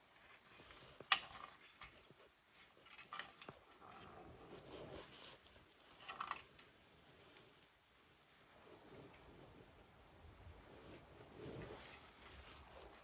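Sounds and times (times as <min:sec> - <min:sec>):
rustling and scraping of wires: 0:00.0 - 0:13.0.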